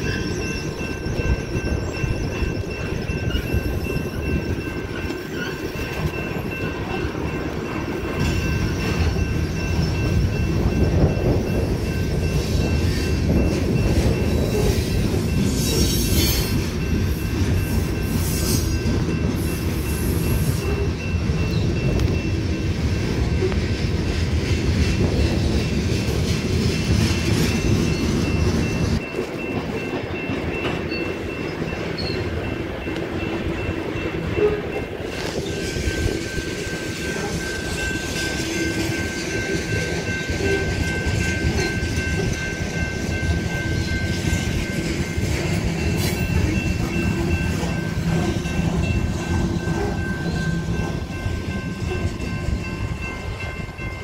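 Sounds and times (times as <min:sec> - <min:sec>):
crossing warning bell ringing: 0:00.0 - 0:54.0
train wheels clacking over rails: 0:00.0 - 0:54.0.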